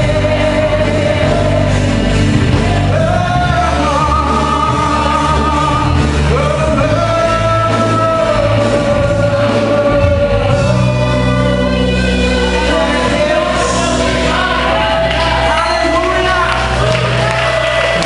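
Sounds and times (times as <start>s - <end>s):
gospel band playing: 0.0s - 18.0s.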